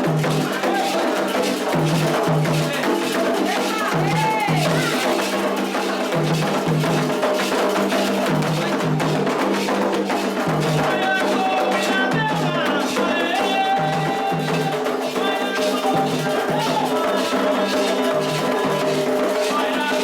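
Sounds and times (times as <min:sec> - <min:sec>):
drums and percussion: 0:00.0 - 0:20.0
voices singing: 0:00.0 - 0:20.0.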